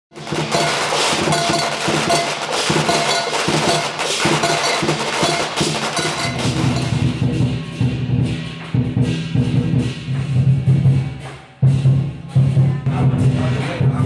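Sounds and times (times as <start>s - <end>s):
firecrackers crackling: 0.1s - 13.9s
percussive music: 0.1s - 14.0s.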